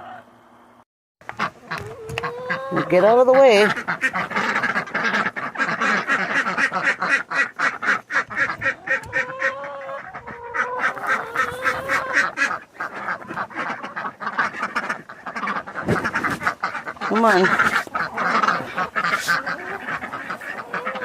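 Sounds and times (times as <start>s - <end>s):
ducks quacking: 1.2s - 21.0s.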